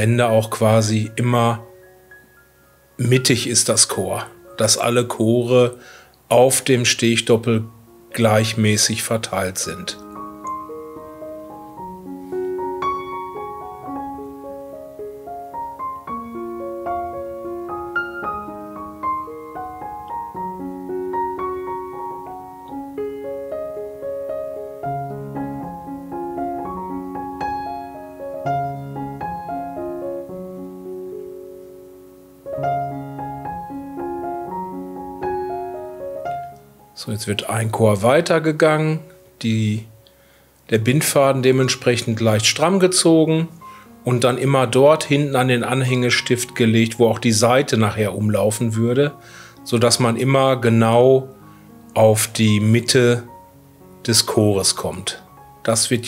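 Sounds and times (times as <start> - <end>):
solo piano music: 0.0 - 56.0.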